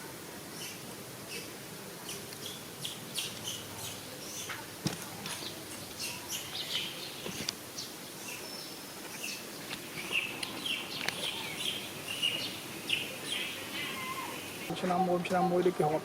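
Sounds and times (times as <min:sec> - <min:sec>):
birds chirping: 0:00.0 - 0:16.0
outdoor background noise: 0:00.0 - 0:16.0.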